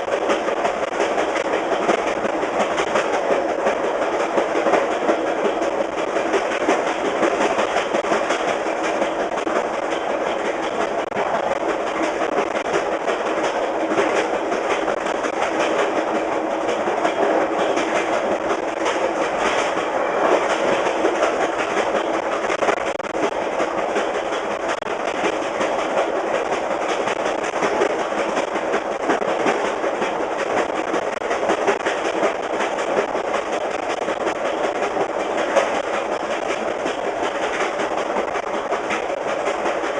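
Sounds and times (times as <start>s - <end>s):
train wheel and rail rumble: 0.0s - 39.9s
wheels clickety-clack on rail joints: 0.0s - 39.9s.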